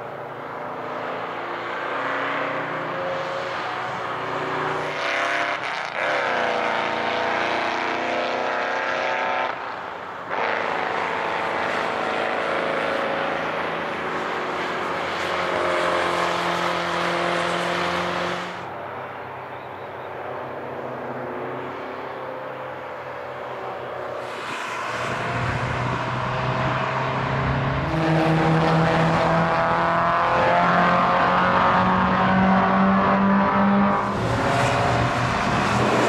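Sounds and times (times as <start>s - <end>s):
racing cars accelerating past: 0.2s - 18.7s, 20.3s - 36.0s.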